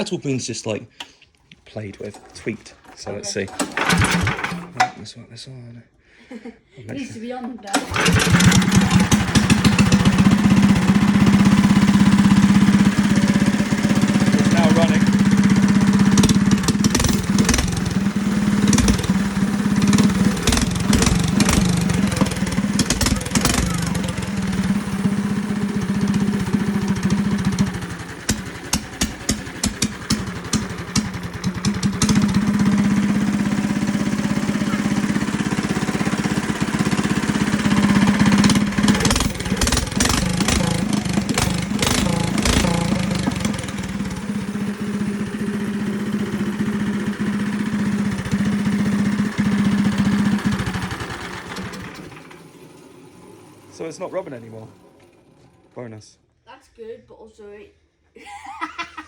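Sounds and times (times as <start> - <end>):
exhaust popping: 1.8 - 5.0, 7.7 - 55.9
go kart engine with loud exhaust: 3.4 - 4.8, 7.7 - 55.8.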